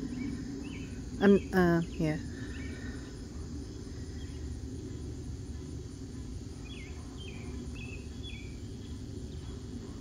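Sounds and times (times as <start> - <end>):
high insect drone: 0.0 - 10.0
low background rumble: 0.0 - 10.0.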